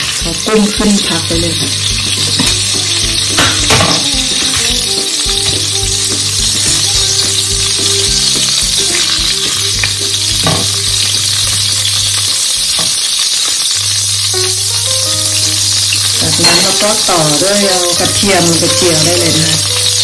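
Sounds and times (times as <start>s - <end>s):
shrimp sizzling in hot oil: 0.0s - 20.0s.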